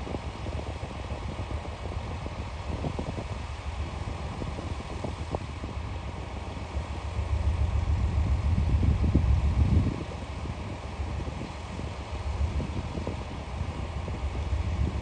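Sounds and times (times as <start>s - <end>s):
diesel train engine rumble: 0.0s - 15.0s.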